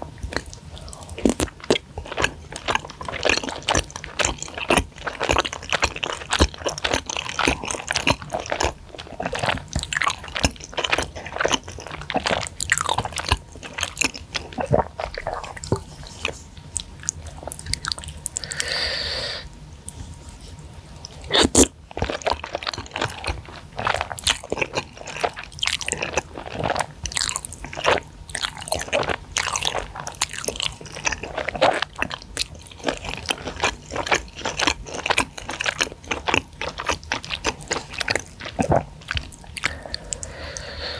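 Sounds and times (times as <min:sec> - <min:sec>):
close chewing with mouth clicks: 0:00.1 - 0:40.9.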